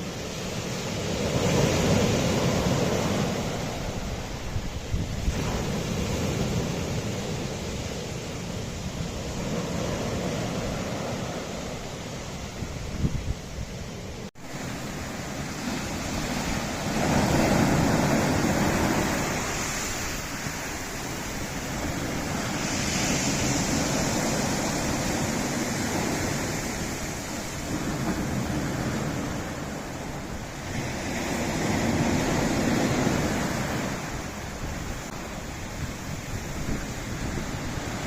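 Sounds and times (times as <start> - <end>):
waves washing over rocky shore: 0.0 - 38.0.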